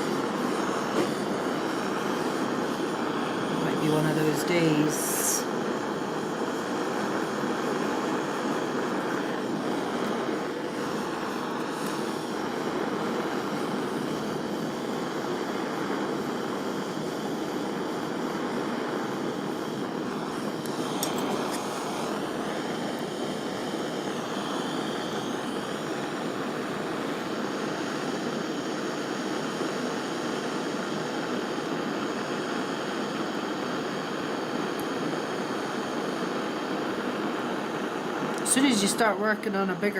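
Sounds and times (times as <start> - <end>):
soldering torch flame hissing: 0.0 - 39.9.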